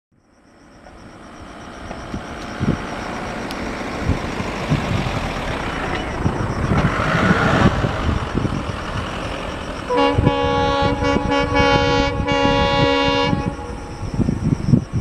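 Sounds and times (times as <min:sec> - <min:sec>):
diesel locomotive engine running: 0:00.7 - 0:15.0.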